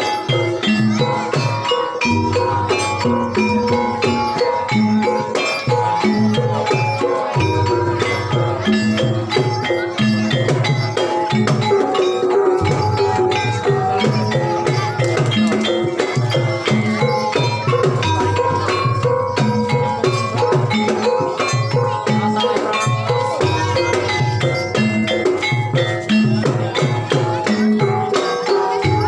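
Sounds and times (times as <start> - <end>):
fast hand-drumming: 0.0 - 29.0
struck melodic tones ringing: 0.0 - 29.0.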